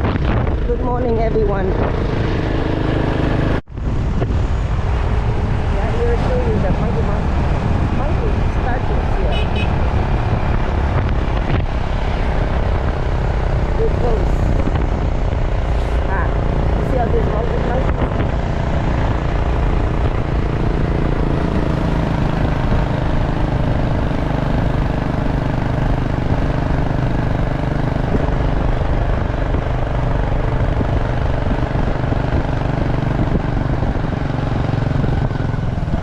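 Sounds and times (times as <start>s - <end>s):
wind rushing over microphone: 0.0s - 36.0s
motor scooter running: 4.8s - 36.0s.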